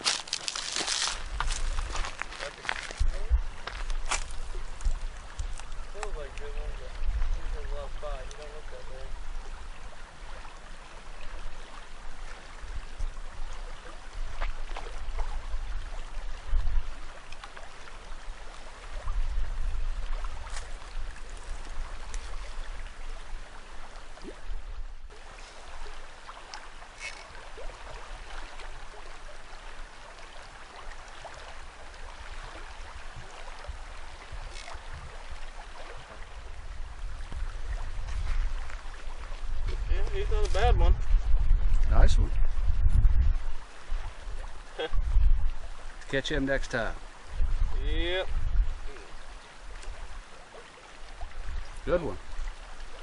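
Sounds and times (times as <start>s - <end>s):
river water rushing: 0.0s - 2.9s, 3.5s - 39.5s, 48.2s - 53.0s.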